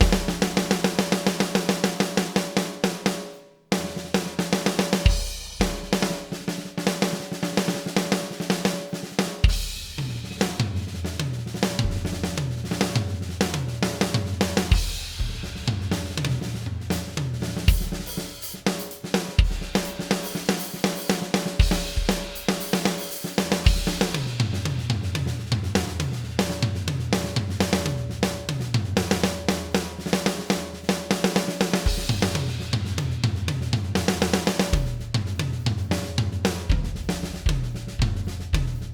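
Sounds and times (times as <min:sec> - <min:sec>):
snare and tom fills: 0:00.0 - 0:38.9.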